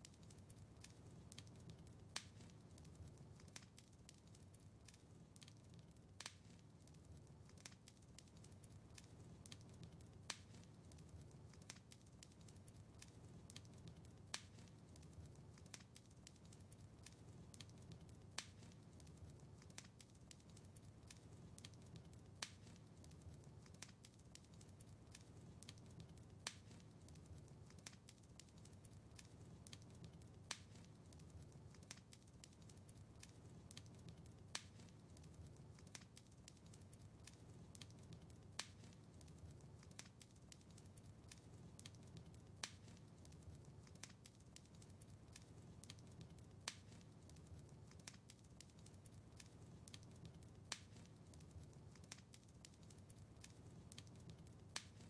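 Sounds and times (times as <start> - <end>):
fire popping and ticking: 0.0 - 55.0
low rumble of flames: 0.0 - 55.0.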